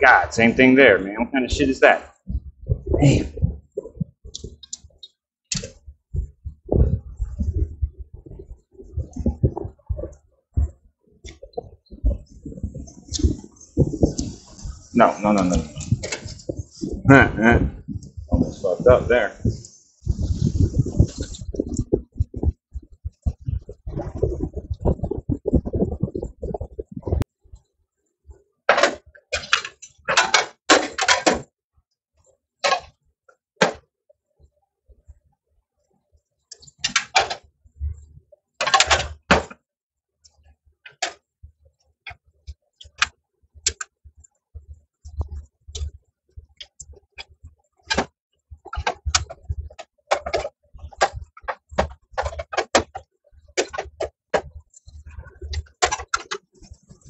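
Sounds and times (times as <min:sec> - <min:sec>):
wiring clicks and rustles: 0:01.6 - 0:27.7, 0:28.3 - 0:57.0.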